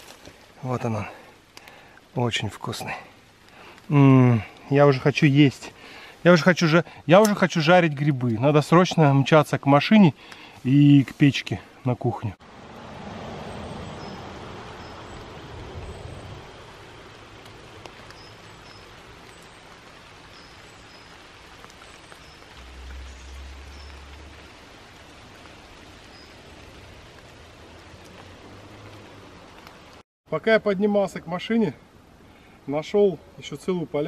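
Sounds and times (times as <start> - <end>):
outdoor air hiss: 0.0 - 34.0.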